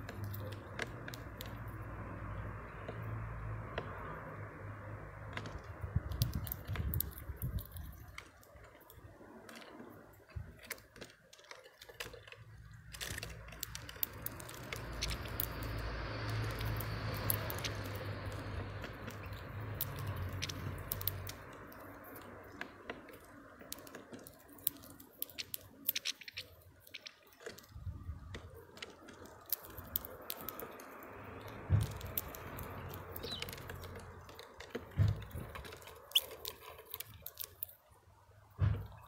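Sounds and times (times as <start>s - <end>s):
birds cracking seeds: 0.0s - 39.0s.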